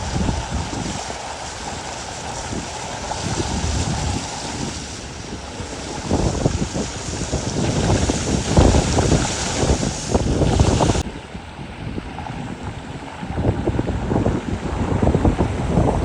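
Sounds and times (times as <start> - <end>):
heavy rain rushing: 0.0 - 11.1, 12.4 - 16.0
wind buffeting microphone: 0.0 - 16.0.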